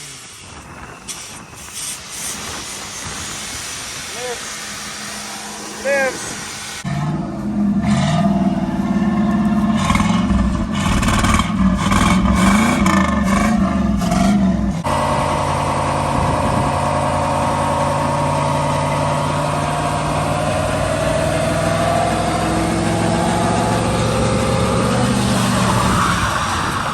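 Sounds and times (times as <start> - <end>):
car engine revving and idling: 3.8 - 26.9.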